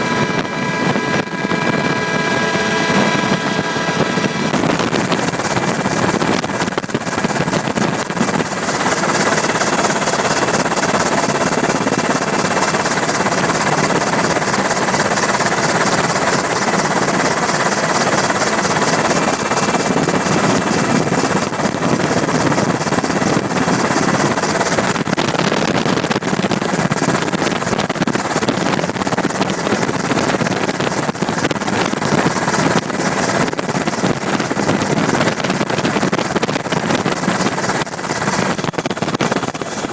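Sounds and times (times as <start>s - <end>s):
aircraft engine and cabin noise: 0.0s - 39.9s
fast even pulsing: 0.0s - 39.9s.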